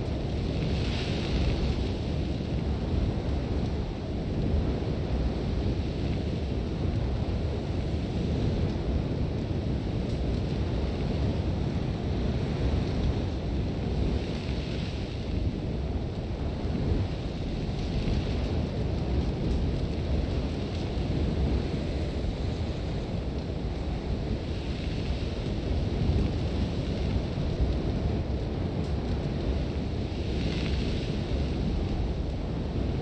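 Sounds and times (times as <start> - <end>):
strong wind rumbling: 0.0 - 33.0.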